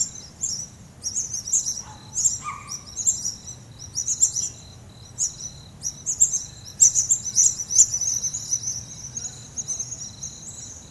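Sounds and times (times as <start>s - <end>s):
crickets trilling: 0.0s - 10.9s
high cricket chirps: 0.0s - 10.9s.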